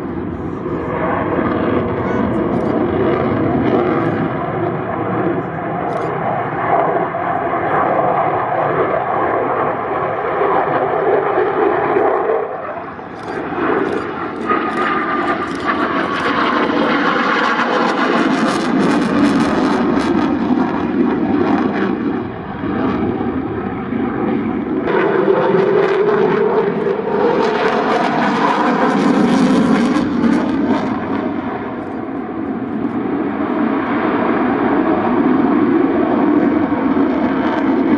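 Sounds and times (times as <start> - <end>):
jet engines roaring overhead: 0.0 - 37.9.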